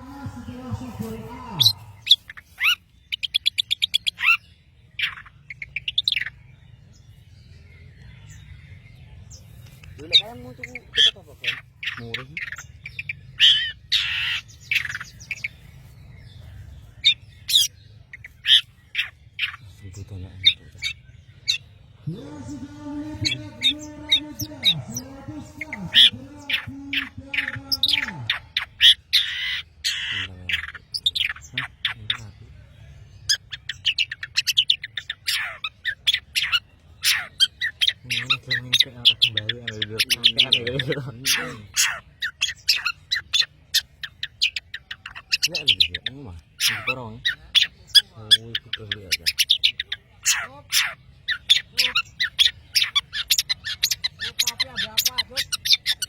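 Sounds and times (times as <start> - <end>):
bird singing chirps: 0.0 - 56.0.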